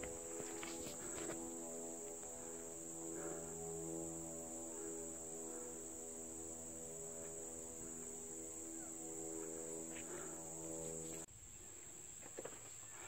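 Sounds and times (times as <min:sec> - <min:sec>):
steady low hum: 0:00.0 - 0:12.1
insects chirping: 0:00.0 - 0:13.0.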